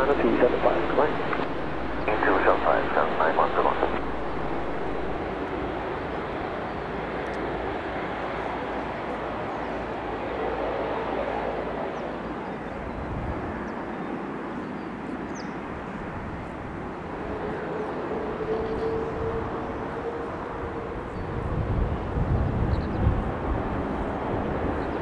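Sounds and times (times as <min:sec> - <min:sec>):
jet engine rush: 0:00.0 - 0:25.0.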